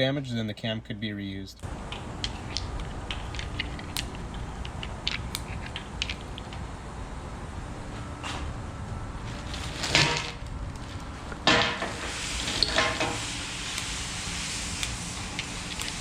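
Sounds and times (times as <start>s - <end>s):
steady hiss: 1.6s - 7.9s, 9.1s - 16.0s.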